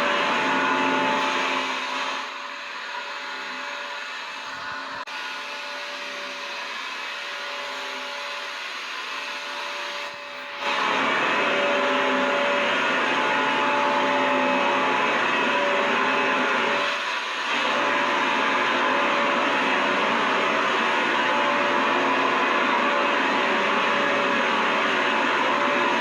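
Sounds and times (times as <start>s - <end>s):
vacuum cleaner motor running: 0.0s - 26.0s.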